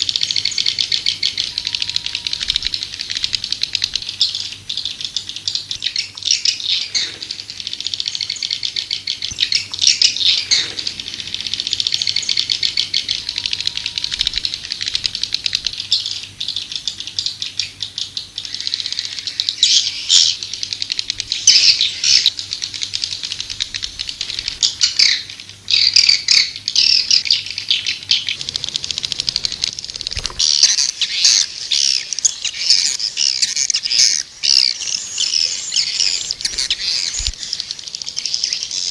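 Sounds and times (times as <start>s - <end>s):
swiftlets twittering: 0.0s - 17.1s, 18.4s - 38.9s.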